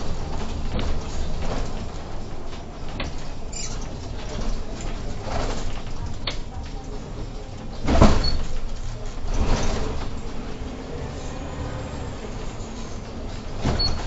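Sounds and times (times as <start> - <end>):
bus doors operating: 0.0 - 14.0
bus low rumble: 0.0 - 14.0.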